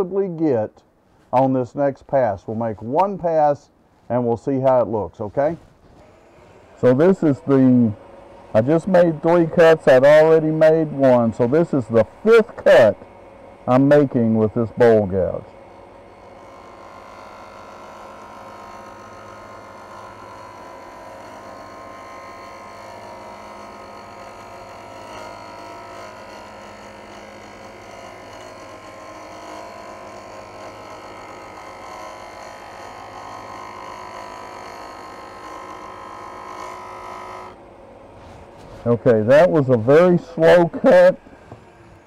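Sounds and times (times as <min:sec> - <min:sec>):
wood lathe humming: 0:05.4 - 0:42.0
gouge cutting spinning wood: 0:06.0 - 0:42.0.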